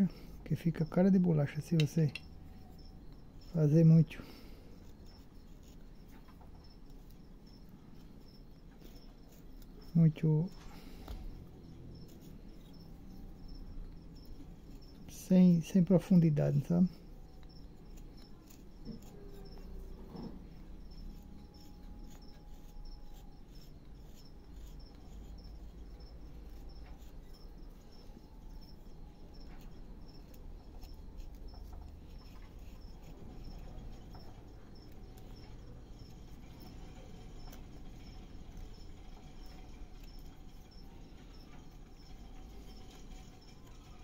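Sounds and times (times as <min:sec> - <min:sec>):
knife scraping wood: 0:00.0 - 0:44.0.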